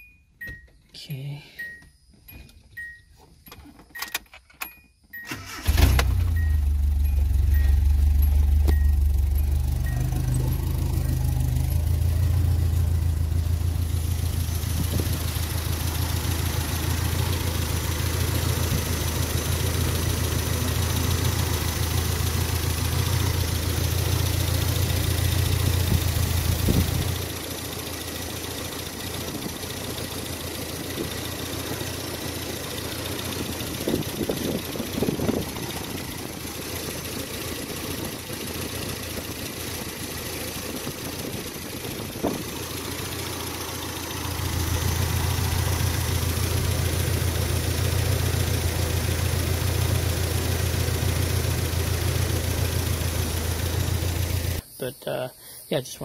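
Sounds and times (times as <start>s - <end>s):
engine starting and running: 3.5s - 54.6s.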